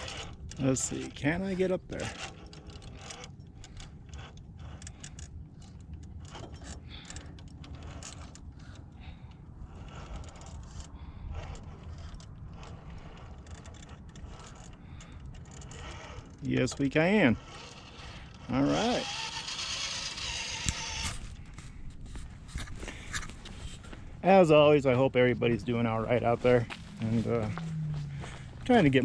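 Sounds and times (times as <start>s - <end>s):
electric motor whirring: 0.0s - 29.0s
tires scraping against rock: 0.0s - 29.0s.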